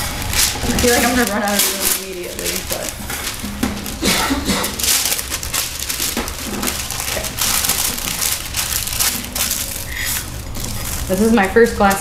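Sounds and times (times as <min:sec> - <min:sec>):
waxed paper crinkling: 0:00.0 - 0:12.0.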